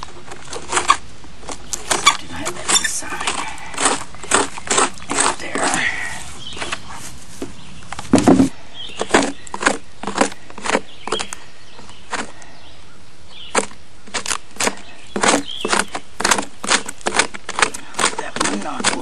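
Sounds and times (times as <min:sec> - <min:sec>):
hand tool scraping wood: 0:00.0 - 0:11.3, 0:13.6 - 0:19.0.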